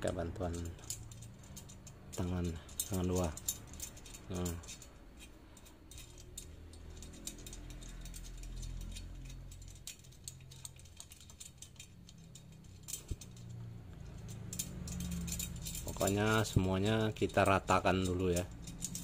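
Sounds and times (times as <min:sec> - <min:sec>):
faint low hum: 0:00.0 - 0:19.0
metallic clicking of wheel spokes: 0:00.0 - 0:19.0.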